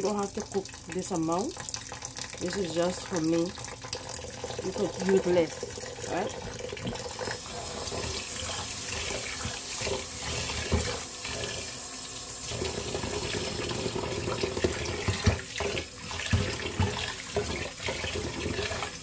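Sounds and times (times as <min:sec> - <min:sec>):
tap water running into a pot: 0:00.0 - 0:19.0.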